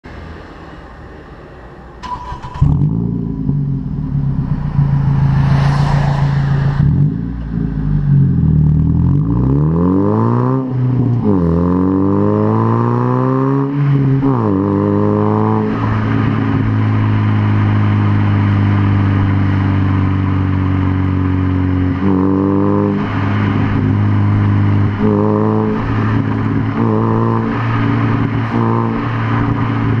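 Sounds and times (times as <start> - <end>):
car engine revving and idling: 0.1 - 30.0.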